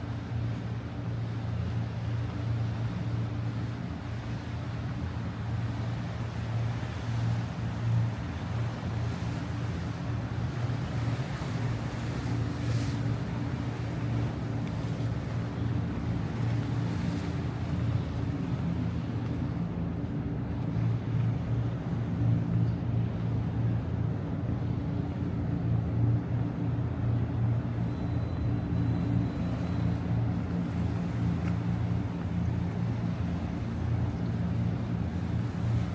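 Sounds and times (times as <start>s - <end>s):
steady low engine hum: 0.0s - 35.9s.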